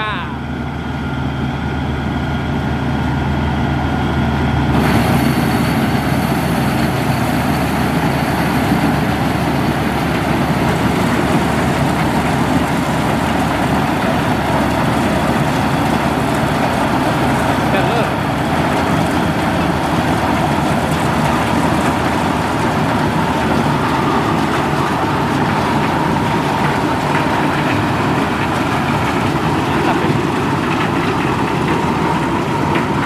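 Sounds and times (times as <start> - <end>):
harvester engine hum: 0.0 - 33.0
rushing harvester threshing noise: 0.4 - 33.0.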